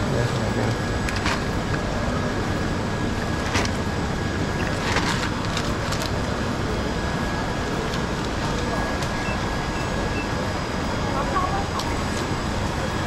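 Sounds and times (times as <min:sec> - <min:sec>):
busy market din: 0:00.0 - 0:13.0.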